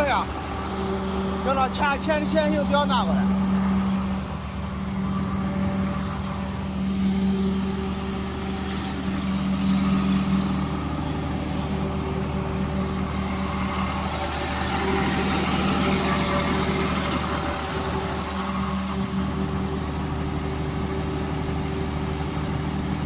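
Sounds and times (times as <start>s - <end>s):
diesel generator running: 0.0s - 23.0s.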